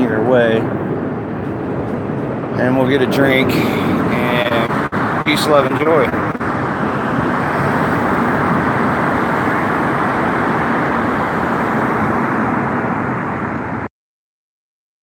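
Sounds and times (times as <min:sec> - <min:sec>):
road traffic noise: 0:00.0 - 0:13.9.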